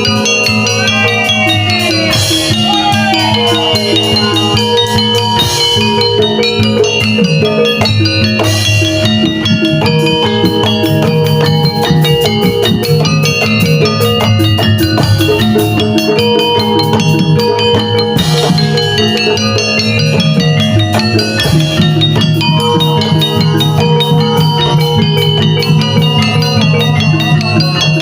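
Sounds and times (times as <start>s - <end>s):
metallic mallet melody: 0.0s - 28.0s
steady drum beat: 0.0s - 28.0s.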